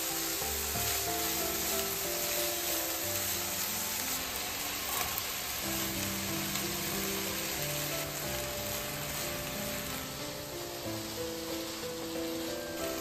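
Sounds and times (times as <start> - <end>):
chicken sizzling in a frying pan: 0.0 - 13.0
spatula stirring food: 0.0 - 13.0.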